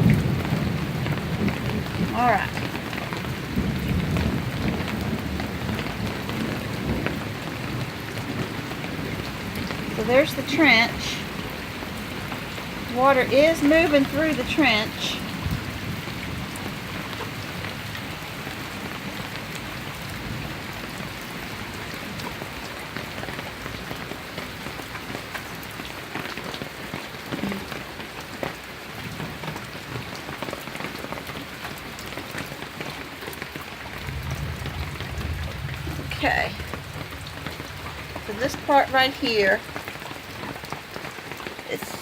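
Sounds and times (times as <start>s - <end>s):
raindrops hitting close by: 0.0s - 42.0s
steady rain falling: 0.0s - 42.0s.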